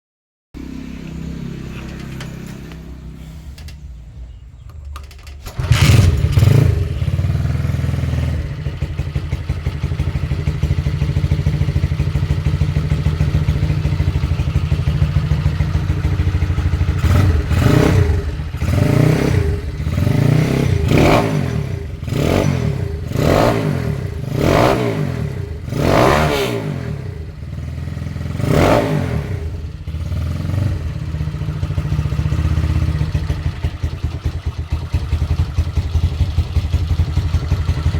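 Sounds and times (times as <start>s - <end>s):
motorcycle engine revving and idling: 0.6s - 37.9s.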